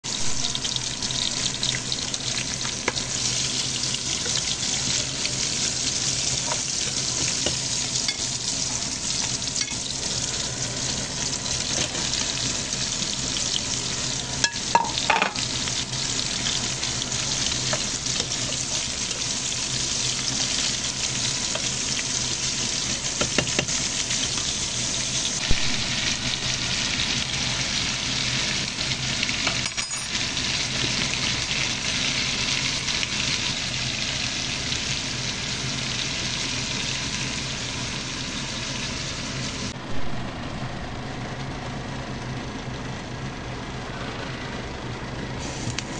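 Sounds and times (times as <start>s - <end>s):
meat sizzling in a pot: 0.0s - 39.8s, 45.4s - 45.9s.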